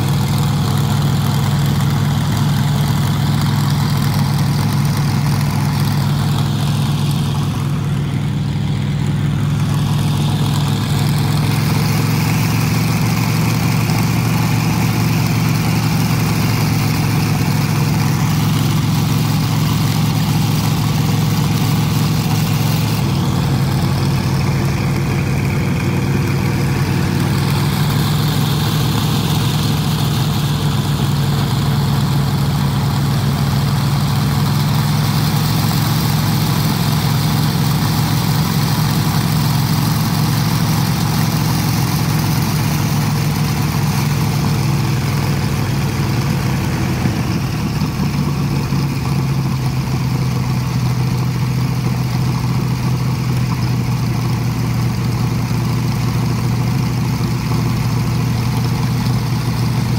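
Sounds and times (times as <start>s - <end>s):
radial aircraft engine idling: 0.0s - 59.9s.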